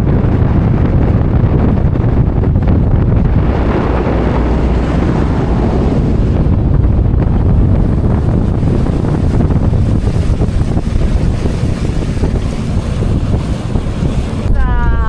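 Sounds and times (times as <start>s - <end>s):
wind buffeting microphone: 0.0s - 15.0s
water rushing: 2.4s - 14.6s.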